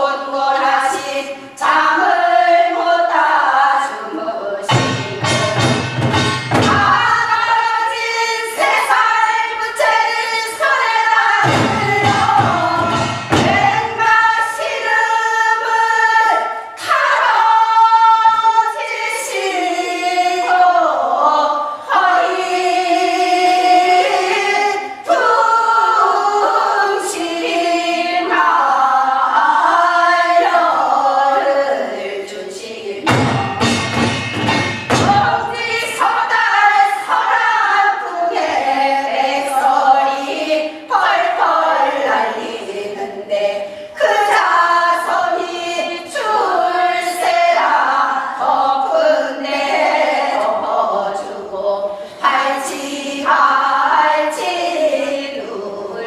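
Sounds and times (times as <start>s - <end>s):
group of voices singing folk song: 0.0s - 56.0s.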